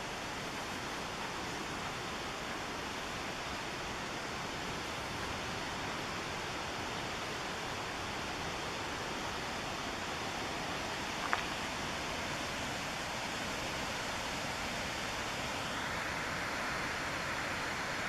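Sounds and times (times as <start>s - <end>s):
whitewater river rushing: 0.0s - 18.0s.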